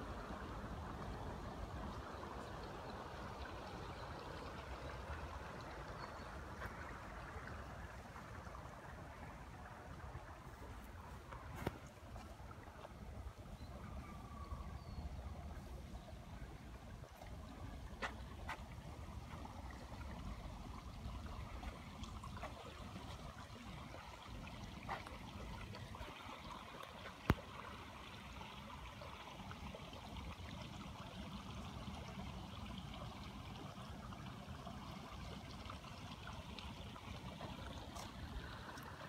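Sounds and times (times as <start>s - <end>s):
creek water running: 0.0s - 39.0s.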